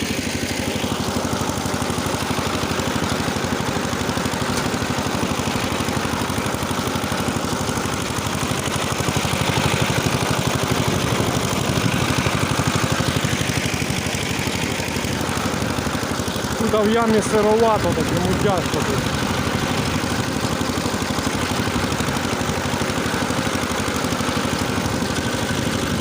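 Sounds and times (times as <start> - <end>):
rotary tiller engine running: 0.0 - 26.0.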